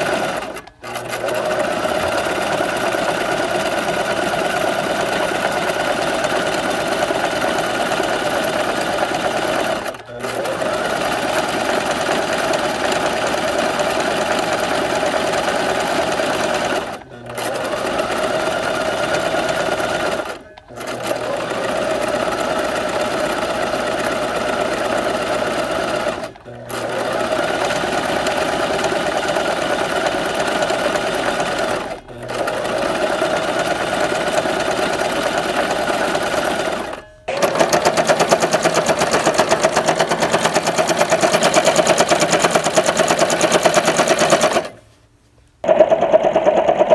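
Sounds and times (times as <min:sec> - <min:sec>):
sewing machine stitching: 0:00.0 - 0:44.8, 0:45.6 - 0:46.9.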